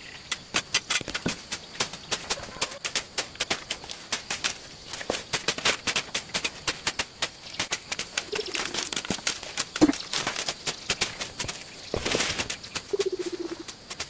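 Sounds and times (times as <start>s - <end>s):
rapid clicking and scraping: 0.3s - 14.0s.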